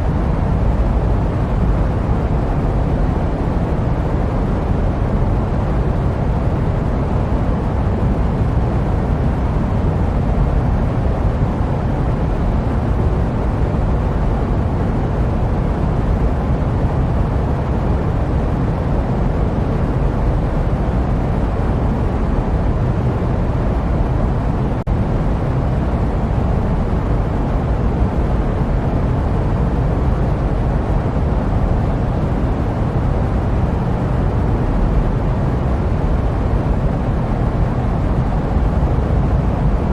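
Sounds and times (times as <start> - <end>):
jet airplane rumble: 0.0 - 39.9.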